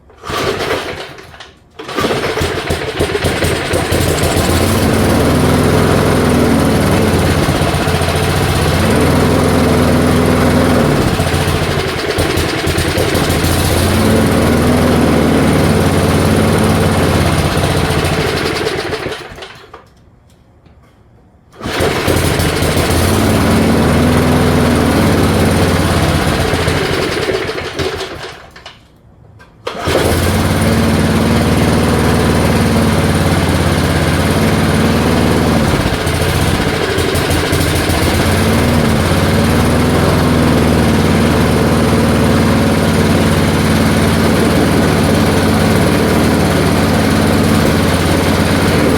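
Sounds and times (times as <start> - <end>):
small engine running unevenly: 0.2 - 19.7, 21.6 - 28.6, 29.7 - 48.9.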